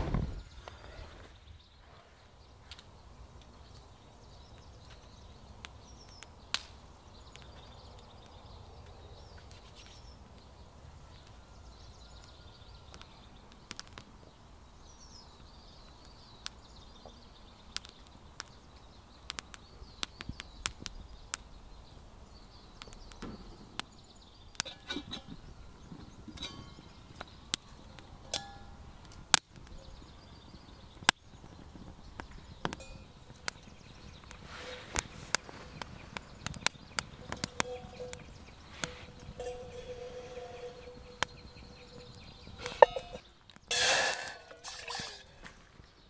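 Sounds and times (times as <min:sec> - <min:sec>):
birds chirping faintly: 0:00.1 - 0:46.0
wood fire crackling: 0:02.5 - 0:09.6, 0:12.7 - 0:45.9.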